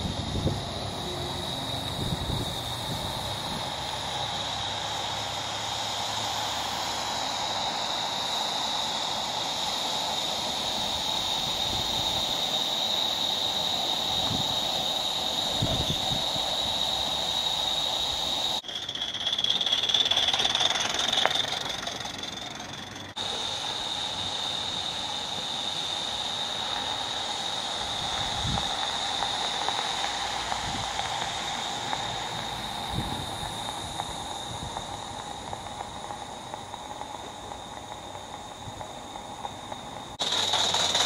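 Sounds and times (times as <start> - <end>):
high-pitched whine: 0.0 - 41.0
model steam locomotive hissing: 0.0 - 41.0.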